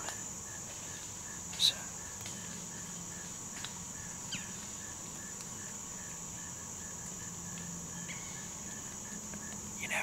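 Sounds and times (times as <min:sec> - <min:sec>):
insects chirping: 0:00.0 - 0:10.0
insects droning: 0:00.0 - 0:10.0.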